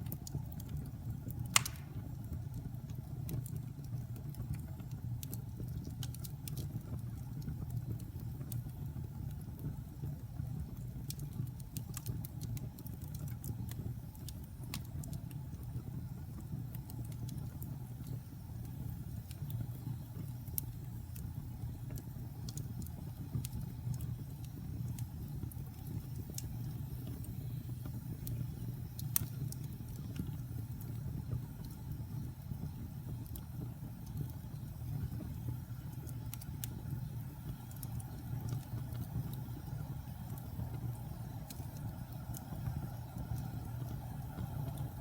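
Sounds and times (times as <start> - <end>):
burning wood crackling and popping: 0.0 - 45.0
fire roaring in fireplace: 0.0 - 45.0.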